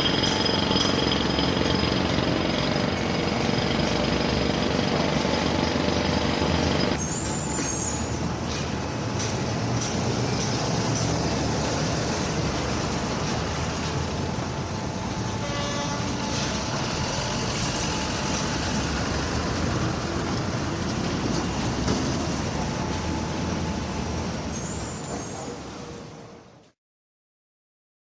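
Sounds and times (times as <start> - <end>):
construction site din: 0.0 - 26.8
traffic noise: 0.0 - 26.8.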